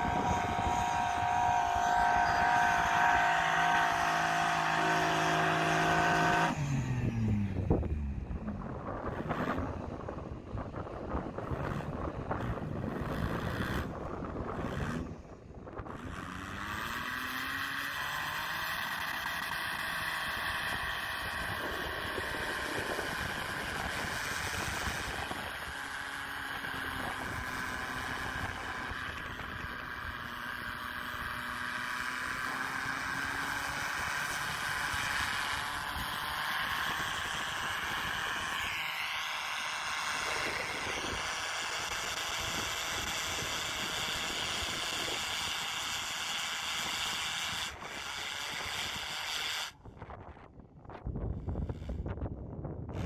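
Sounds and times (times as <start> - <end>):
engine running at high revs: 0.0 - 50.6, 51.3 - 52.2.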